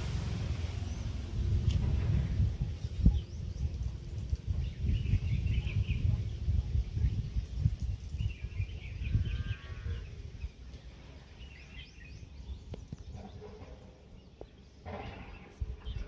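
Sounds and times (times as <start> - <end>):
wind buffeting microphone: 0.0 - 16.0
small birds chirping: 0.6 - 16.0.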